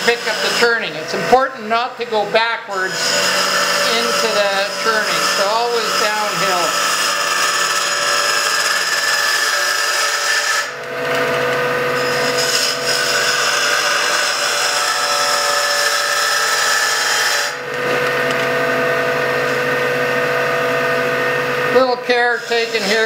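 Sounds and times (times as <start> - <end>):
lathe cutter shaving wood: 0.0 - 23.0
wood lathe whine: 0.0 - 23.0.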